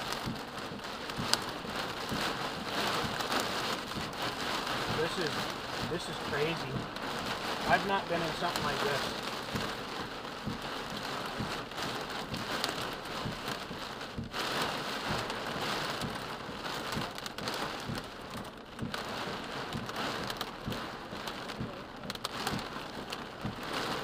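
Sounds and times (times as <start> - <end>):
rain and hail on car roof: 0.0 - 24.0.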